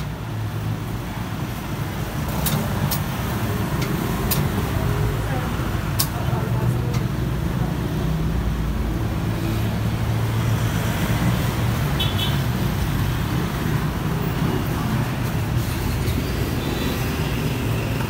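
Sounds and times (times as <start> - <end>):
vehicle road noise: 0.0 - 18.0.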